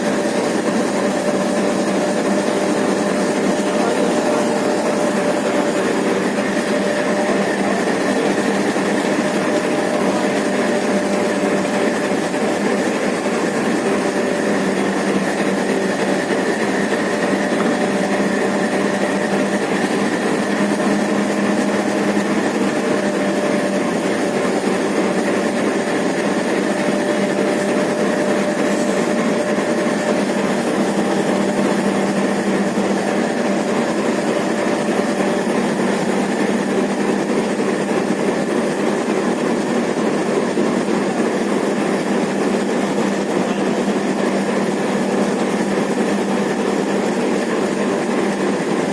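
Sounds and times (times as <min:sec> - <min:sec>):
locomotive engine droning: 0:00.0 - 0:48.9.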